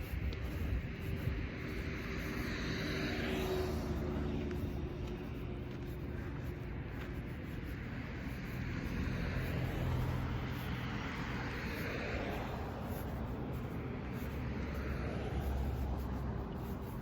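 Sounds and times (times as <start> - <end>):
distant motor traffic rumble: 0.0 - 17.0
vehicle passing by: 0.0 - 17.0.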